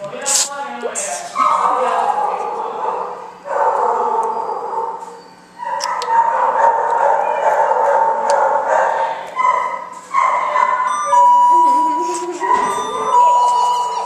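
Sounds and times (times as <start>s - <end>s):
animal howling: 1.4s - 14.0s.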